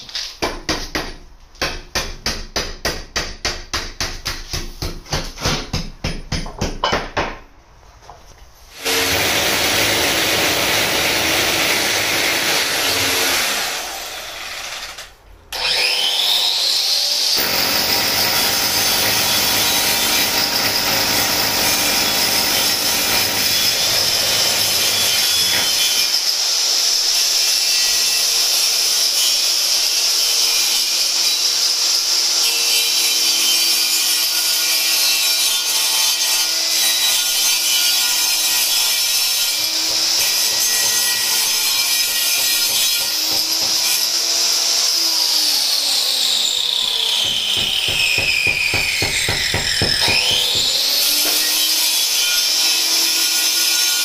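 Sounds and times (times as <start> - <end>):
angle grinder cutting brick: 8.7 - 54.0.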